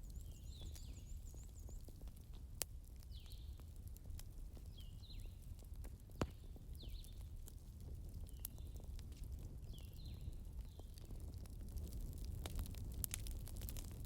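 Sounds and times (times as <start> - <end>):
fire crackling pops: 0.0 - 14.0
wood fire rumbling: 0.0 - 14.0.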